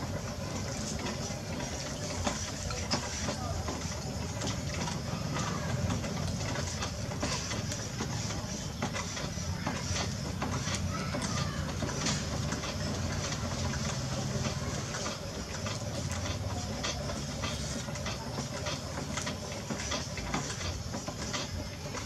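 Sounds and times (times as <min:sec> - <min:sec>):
potter's wheel motor hum: 0:00.0 - 0:22.0.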